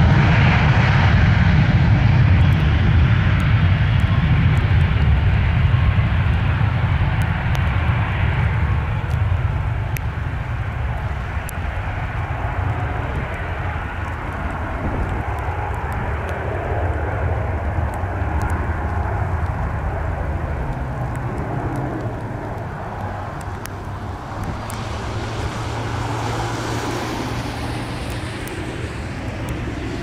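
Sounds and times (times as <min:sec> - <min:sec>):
jet engine rumble: 0:00.0 - 0:30.0.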